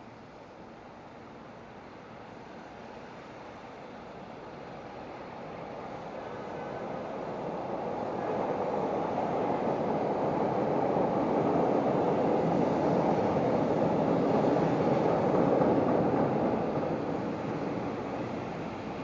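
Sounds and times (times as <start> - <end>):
elevated train passing overhead: 0.0 - 19.0.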